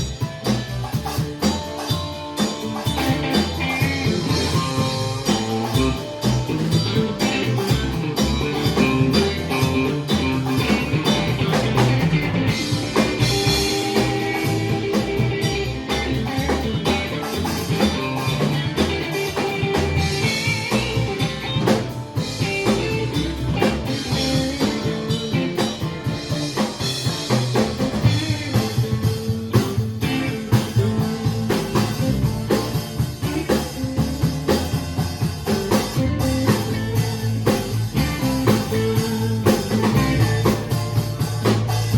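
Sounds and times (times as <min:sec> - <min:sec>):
bass guitar: 0:00.0 - 0:41.9
drum kit steady beat: 0:00.0 - 0:41.9
electric guitar: 0:00.0 - 0:41.9.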